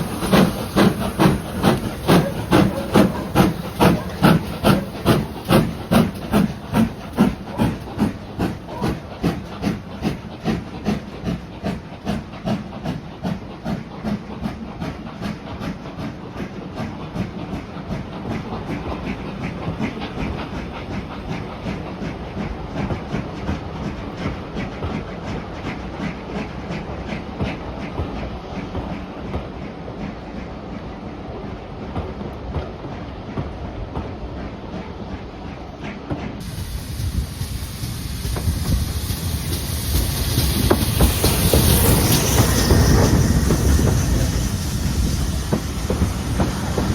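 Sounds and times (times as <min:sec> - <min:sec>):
steam hissing: 0:00.0 - 0:46.9
train running along track: 0:00.0 - 0:46.9.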